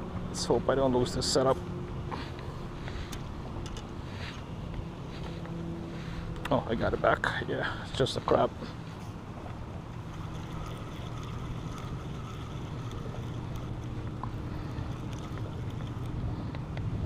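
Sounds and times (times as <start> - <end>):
low motor drone: 0.0 - 17.0.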